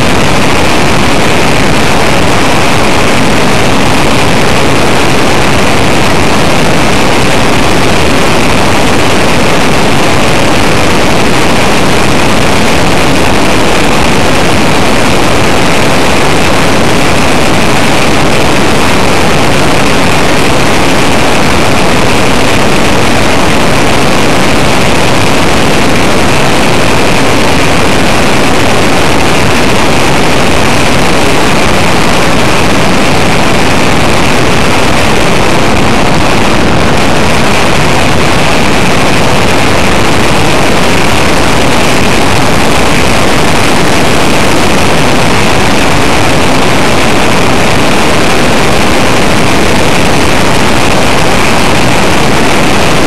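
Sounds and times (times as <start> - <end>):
wind rush: 0.0 - 53.0.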